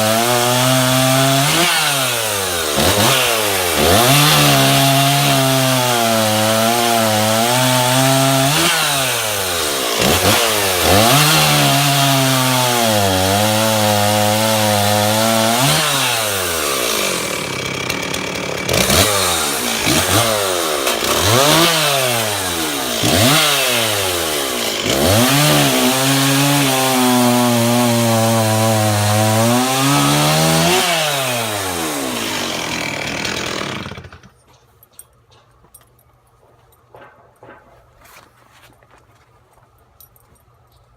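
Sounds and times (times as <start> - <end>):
chainsaw cutting wood: 0.0 - 34.7.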